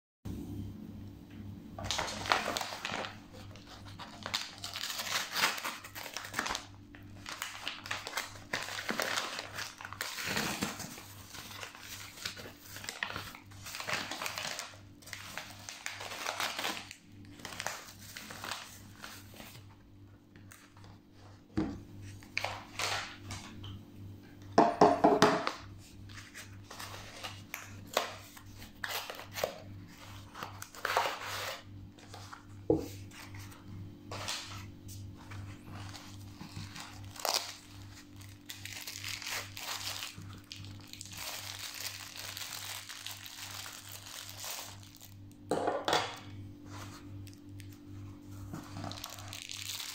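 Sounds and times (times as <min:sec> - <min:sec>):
paper mailer crinkling: 0:01.8 - 0:19.7, 0:25.9 - 0:45.3, 0:47.0 - 0:49.9.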